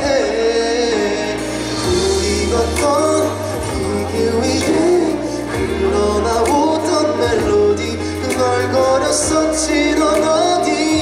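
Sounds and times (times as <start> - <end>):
band accompaniment: 0.0 - 11.0
bass line: 0.0 - 11.0
man singing through pa: 0.0 - 11.0.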